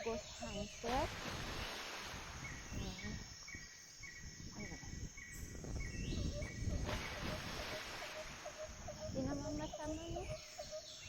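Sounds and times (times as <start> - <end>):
low rumbling wind: 0.0 - 11.0.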